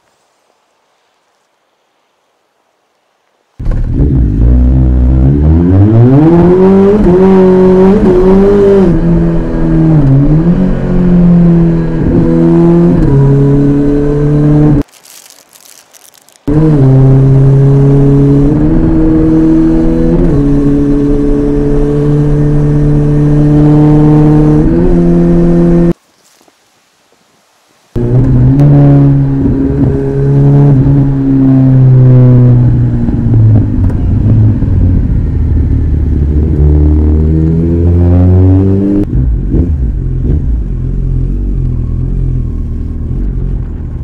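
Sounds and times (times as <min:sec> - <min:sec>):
motorcycle engine revving: 0:03.6 - 0:14.8, 0:16.5 - 0:26.0, 0:28.0 - 0:43.8.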